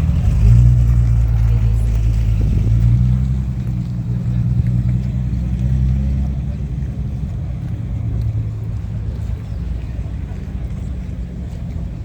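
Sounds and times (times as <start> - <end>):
car engine running low: 0.0 - 12.0.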